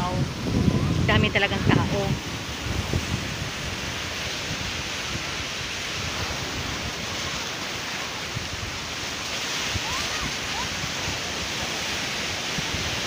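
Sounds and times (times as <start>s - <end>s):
sea waves breaking on shore: 0.0s - 13.0s
wind rumbling on microphone: 0.0s - 13.0s.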